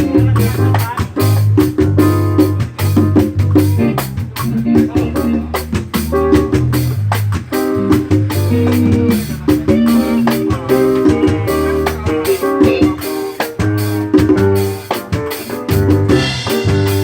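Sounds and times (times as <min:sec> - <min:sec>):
strong bass line: 0:00.0 - 0:14.9, 0:15.7 - 0:17.0
live band playing: 0:00.0 - 0:17.0.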